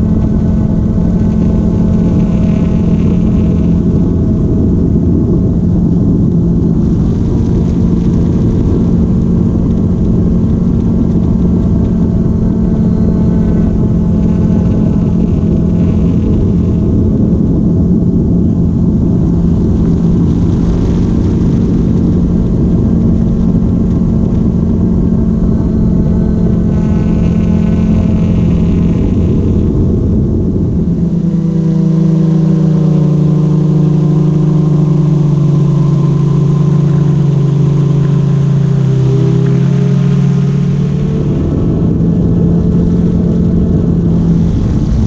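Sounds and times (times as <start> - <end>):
drone propellers humming: 0.0 - 45.0
low rumble: 0.0 - 45.0.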